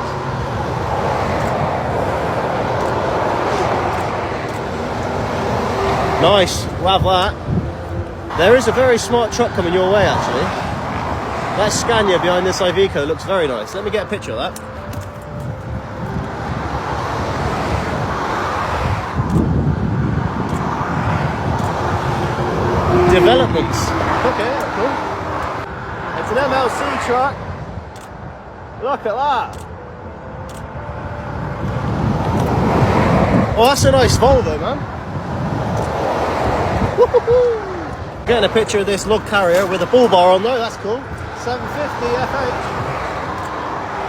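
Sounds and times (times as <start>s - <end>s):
heavy lorries passing: 0.0s - 44.0s
motorway traffic roar: 0.0s - 44.0s.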